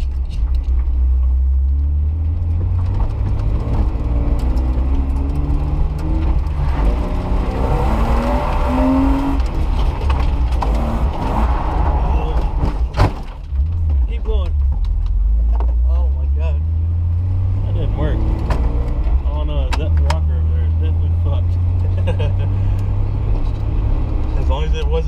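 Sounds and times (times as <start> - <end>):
car engine revving through gears: 1.0 - 25.0.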